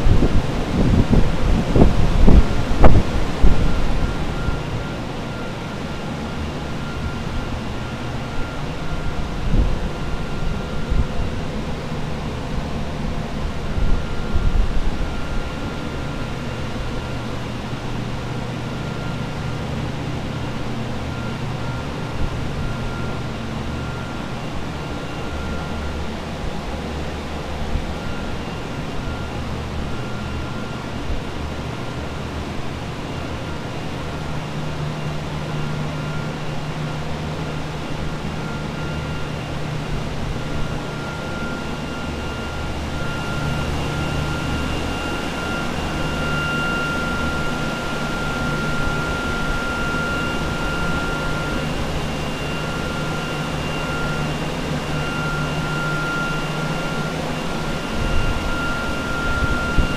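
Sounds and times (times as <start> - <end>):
air movers rushing hum: 0.0 - 59.9
thin high whine: 0.0 - 59.9.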